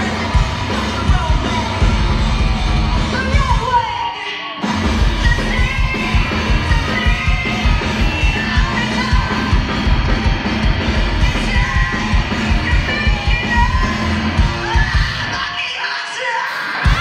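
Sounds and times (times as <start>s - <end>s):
woman singing: 0.0s - 1.9s, 3.1s - 9.7s, 11.2s - 17.0s
pounding drums: 0.0s - 3.7s, 4.6s - 15.3s
live heavy rock band: 0.0s - 17.0s.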